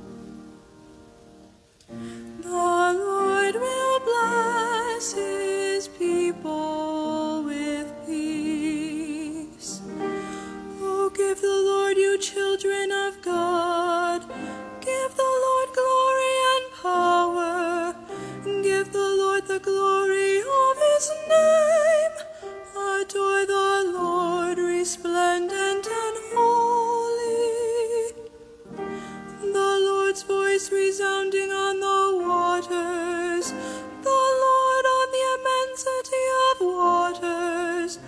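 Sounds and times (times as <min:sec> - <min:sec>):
woman singing with vibrato: 0:02.0 - 0:38.0.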